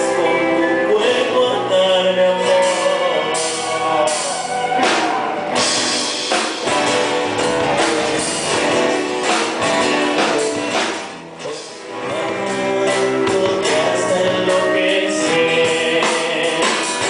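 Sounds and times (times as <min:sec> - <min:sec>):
live band playing instrumental: 0:00.0 - 0:17.0.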